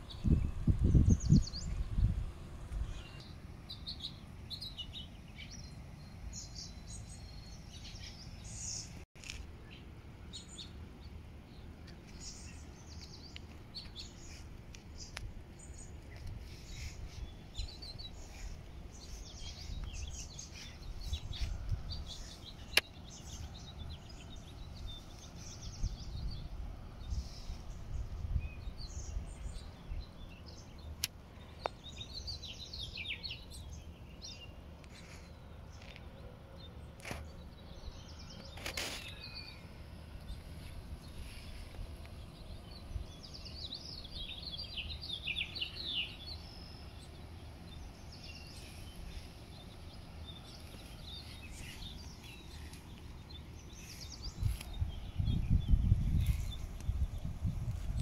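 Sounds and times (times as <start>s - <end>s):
low outdoor rumble: 0.0s - 58.0s
songbirds chirping: 0.0s - 58.0s.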